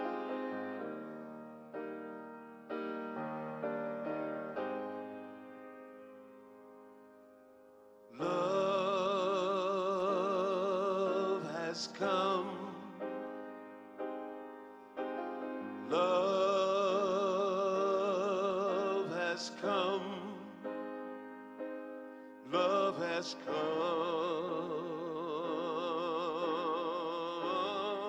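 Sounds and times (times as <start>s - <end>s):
grand piano chords: 0.0s - 28.0s.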